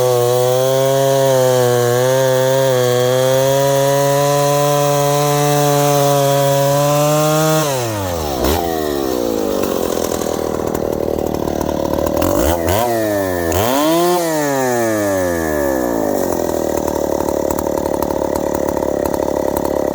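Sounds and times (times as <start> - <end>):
chainsaw revving: 0.0 - 19.9.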